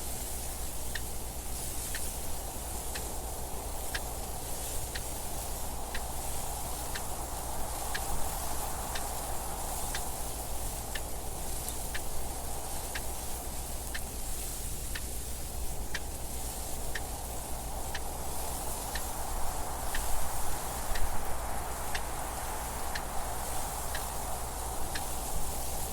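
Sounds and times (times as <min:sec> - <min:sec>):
rushing wind: 0:00.0 - 0:25.9.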